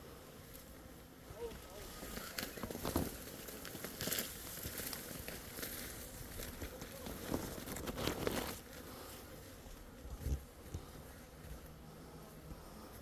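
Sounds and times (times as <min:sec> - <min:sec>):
rustling and crunching: 0:00.5 - 0:11.8.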